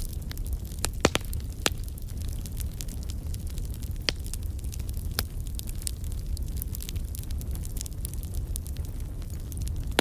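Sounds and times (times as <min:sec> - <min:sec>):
wood fire crackling and popping: 0:00.0 - 0:10.0.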